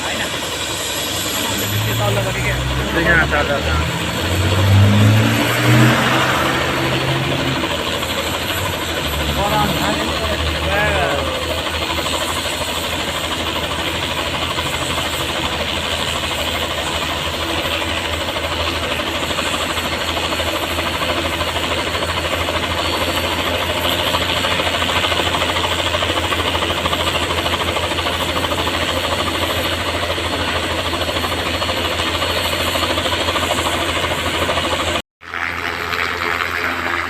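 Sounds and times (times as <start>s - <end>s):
helicopter engine roar: 0.0s - 37.0s
helicopter rotor chop: 0.0s - 37.0s.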